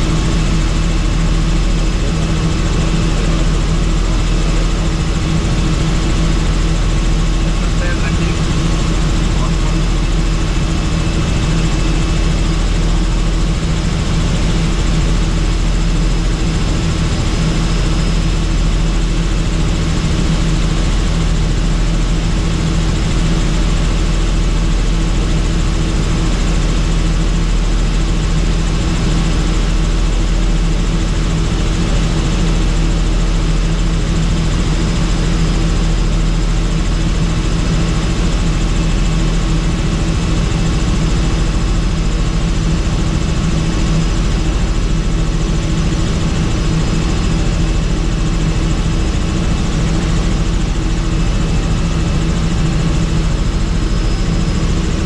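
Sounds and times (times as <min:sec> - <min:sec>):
helicopter in flight: 0:00.0 - 0:55.0.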